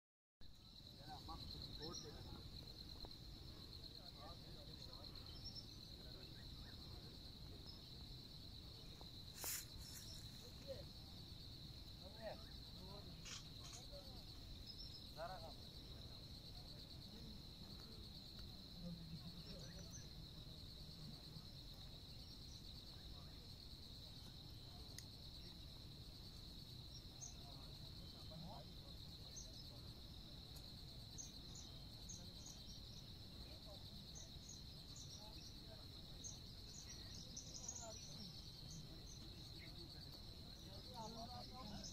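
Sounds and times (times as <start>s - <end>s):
insect chorus buzzing: 0.6s - 41.9s.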